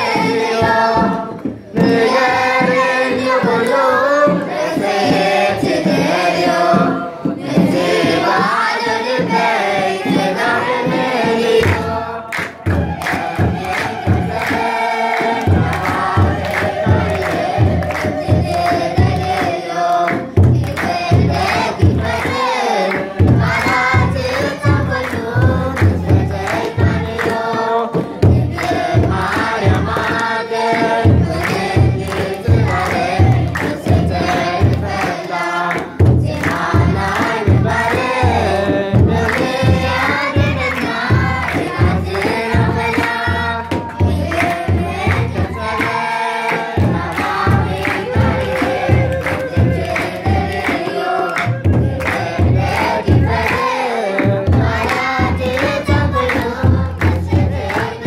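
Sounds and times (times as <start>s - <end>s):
choir and congregation singing: 0.0s - 58.0s
drum beat: 0.0s - 58.0s
hand clapping: 0.6s - 5.2s, 10.2s - 58.0s.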